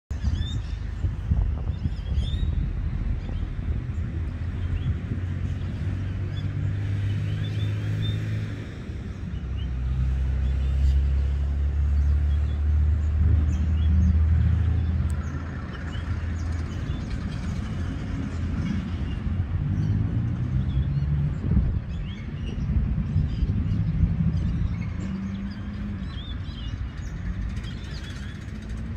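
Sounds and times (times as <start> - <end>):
car engine rumble: 0.1 - 28.9.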